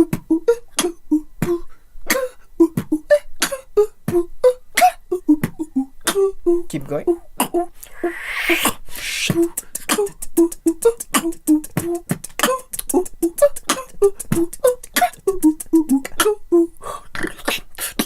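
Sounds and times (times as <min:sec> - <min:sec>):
human beatbox beat: 0:00.0 - 0:06.7, 0:07.4 - 0:18.0
vocal ooh notes: 0:00.0 - 0:18.0.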